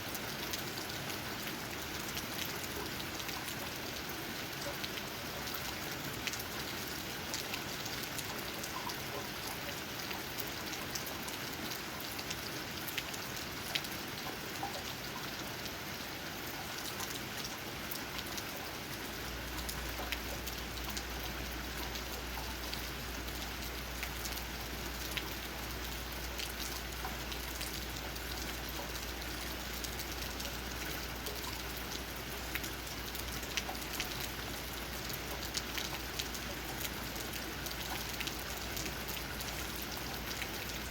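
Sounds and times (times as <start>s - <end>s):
rain on tree leaves: 0.0s - 40.9s.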